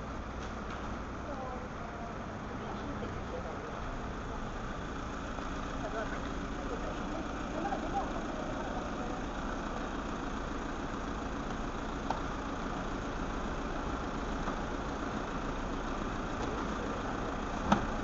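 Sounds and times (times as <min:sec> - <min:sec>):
van engine idling: 0:00.0 - 0:18.0.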